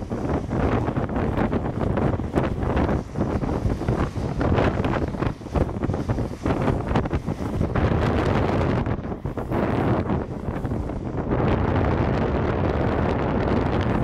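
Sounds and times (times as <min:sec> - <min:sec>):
low road rumble: 0:00.0 - 0:14.0
wind buffeting microphone: 0:00.0 - 0:14.0.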